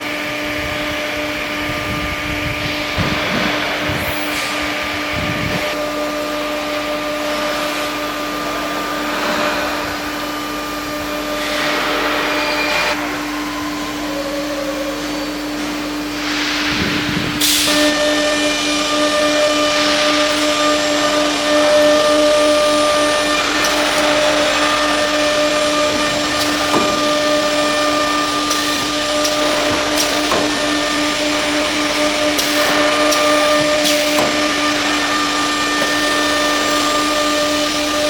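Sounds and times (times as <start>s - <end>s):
router machine drone: 0.0s - 38.0s.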